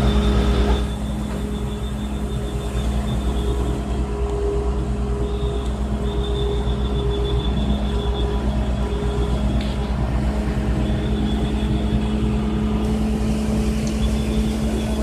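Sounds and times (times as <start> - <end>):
diesel engine rumbling: 0.0 - 15.0
thin high whine: 0.0 - 15.0.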